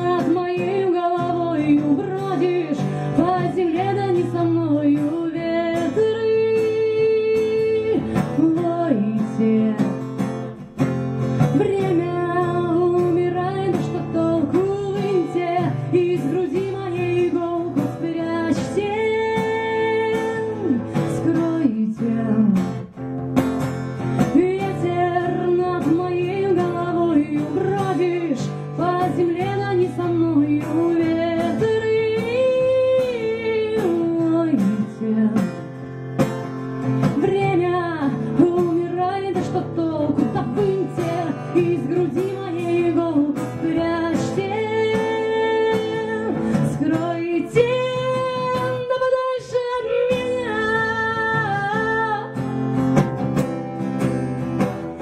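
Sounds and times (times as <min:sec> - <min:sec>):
woman singing: 0:00.0 - 0:23.1, 0:24.0 - 0:55.0
acoustic guitar strumming: 0:00.0 - 0:55.0.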